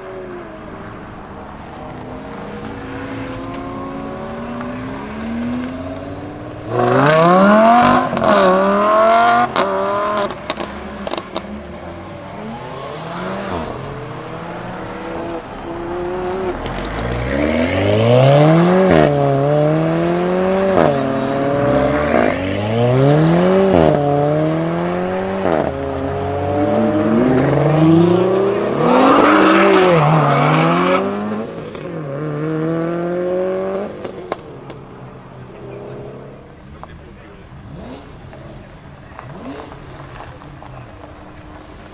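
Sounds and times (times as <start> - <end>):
supercar engine accelerating: 0.0 - 41.9
engine revving with cracks: 2.0 - 41.9.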